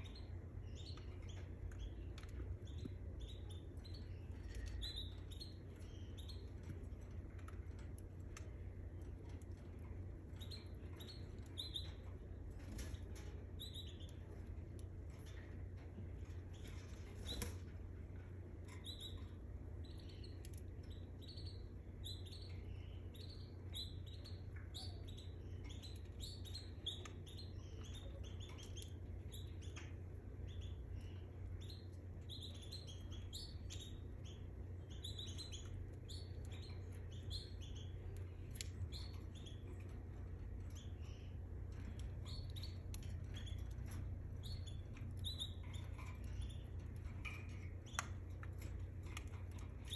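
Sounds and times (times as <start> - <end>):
canary singing and chirping: 0.0 - 49.9
steady low hum: 0.0 - 49.9.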